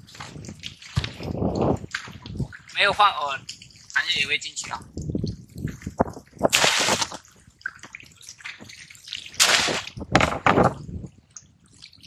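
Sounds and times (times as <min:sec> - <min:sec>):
water dripping and sloshing: 0:00.0 - 0:12.0
water splashing: 0:00.0 - 0:12.0.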